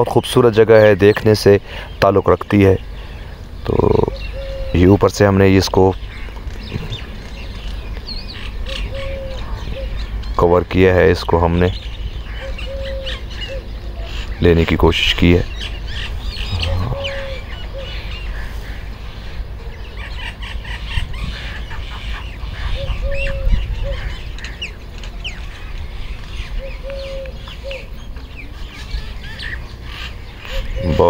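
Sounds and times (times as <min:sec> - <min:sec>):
small birds chirping: 0:00.0 - 0:31.0
steady low rumble: 0:01.7 - 0:29.4.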